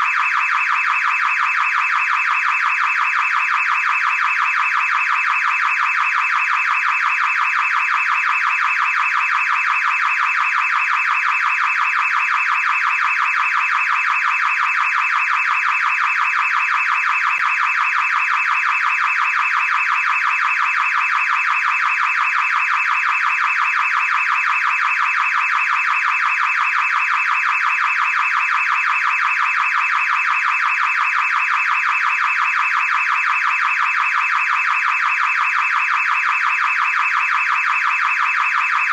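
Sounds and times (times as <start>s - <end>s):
car alarm pulsing tone: 0.0s - 38.9s.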